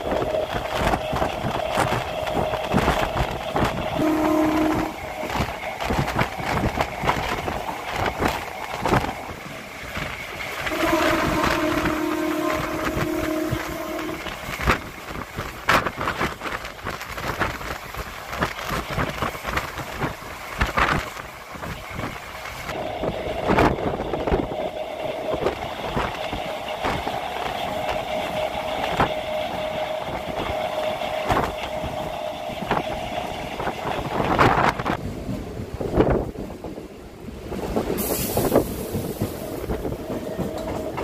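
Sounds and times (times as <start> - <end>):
electric train rumbling: 0.0 - 41.0
wheels clacking on track: 0.0 - 41.0.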